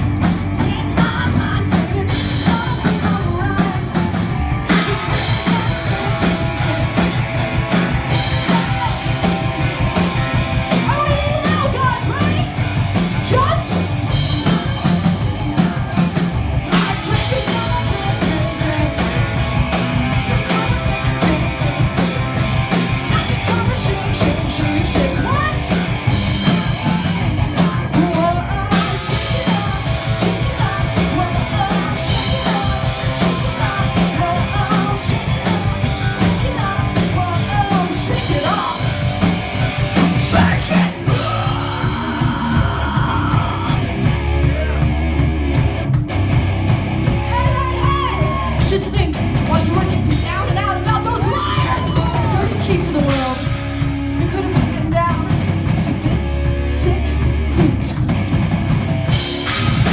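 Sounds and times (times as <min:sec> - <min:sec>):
vocals: 0:00.0 - 0:46.1, 0:47.0 - 0:59.9
heavy metal band playing live: 0:00.0 - 0:59.9.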